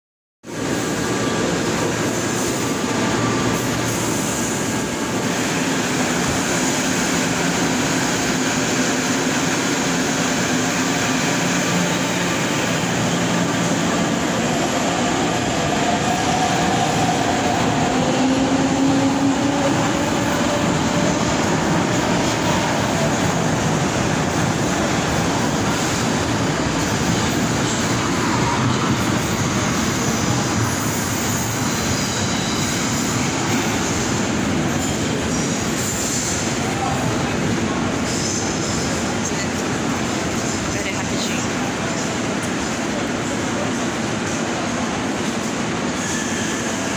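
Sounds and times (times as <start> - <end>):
train wheels rumbling on rail: 0.5 - 46.9.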